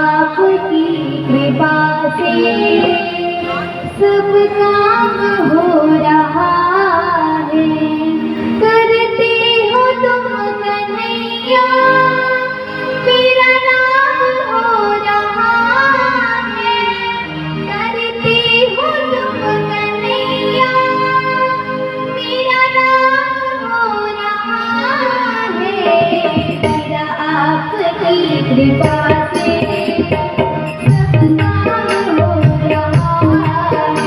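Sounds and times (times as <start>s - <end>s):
musical accompaniment: 0.0s - 34.0s
woman singing devotional song: 0.0s - 34.0s.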